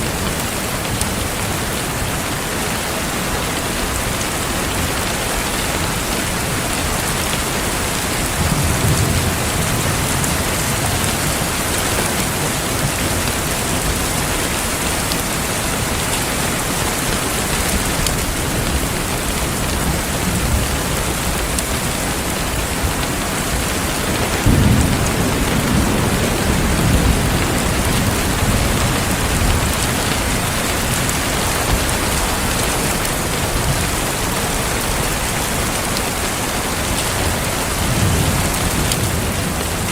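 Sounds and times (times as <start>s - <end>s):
heavy rain falling: 0.0s - 39.9s
thunder rumbling: 3.6s - 39.9s.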